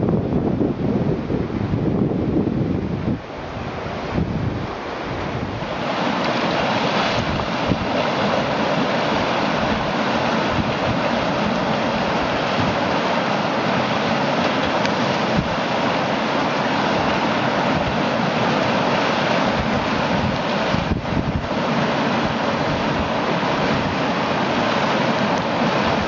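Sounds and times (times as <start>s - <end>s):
wind buffeting microphone: 0.0s - 24.5s
whitewater rushing through rapids: 0.3s - 26.0s.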